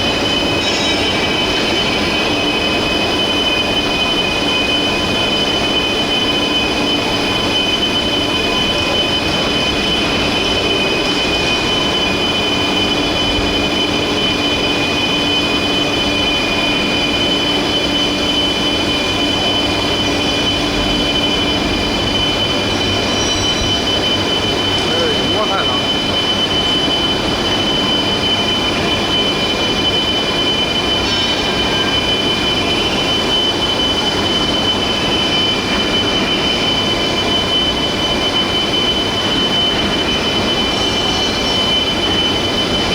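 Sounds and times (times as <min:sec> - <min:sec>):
high whining tones: 0:00.0 - 0:42.9
industrial machinery noise: 0:00.0 - 0:42.9.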